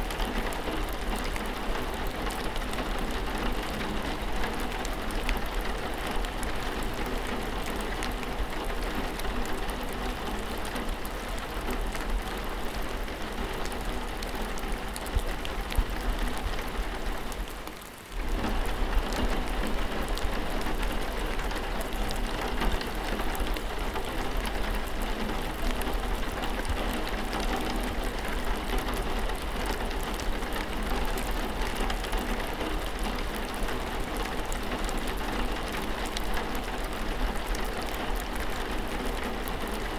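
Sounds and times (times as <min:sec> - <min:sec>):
raindrops ticking: 0:00.0 - 0:39.9
steady rainfall hiss: 0:00.0 - 0:39.9.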